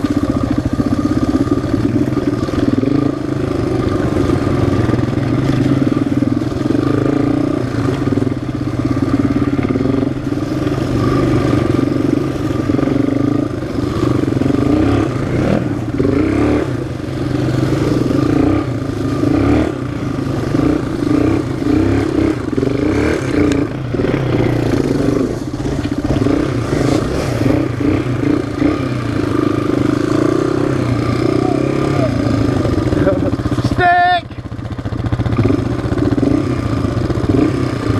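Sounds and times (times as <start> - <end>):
clatter and knocks over rough trail: 0.0 - 31.2
off-road motorcycle engine running: 0.0 - 37.9.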